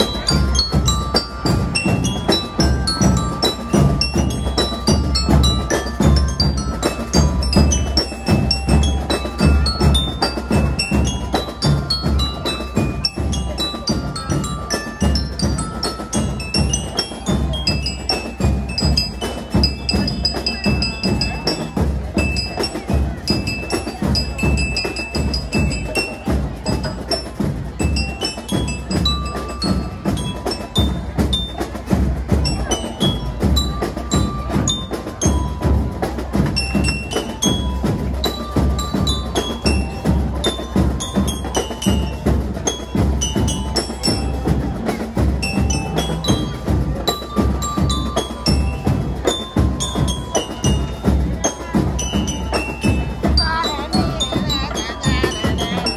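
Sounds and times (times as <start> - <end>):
bell lyre notes: 0.0 - 55.9
drums and cymbals: 0.0 - 55.9
melodicas: 0.0 - 55.9.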